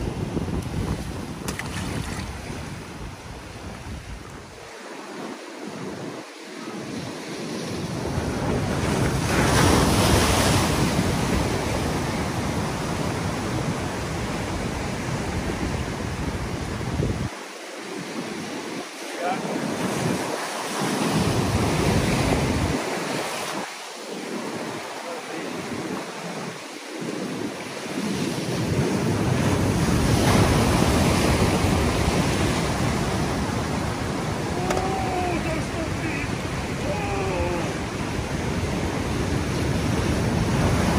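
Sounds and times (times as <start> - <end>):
waves washing over rock: 0.0 - 40.9
wind buffeting microphone: 0.0 - 40.9.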